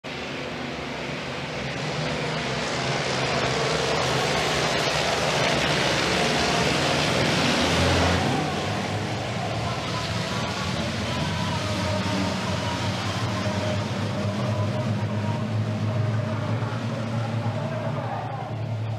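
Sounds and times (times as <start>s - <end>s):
racing truck diesel engines passing: 0.0s - 18.9s.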